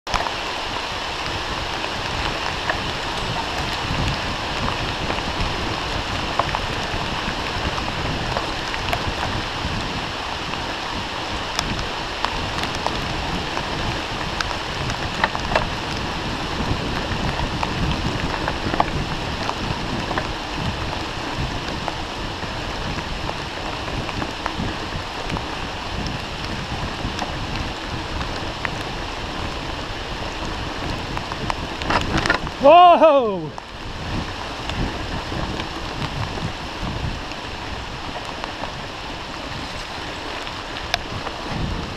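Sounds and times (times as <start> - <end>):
steady rain falling: 0.1 - 41.9.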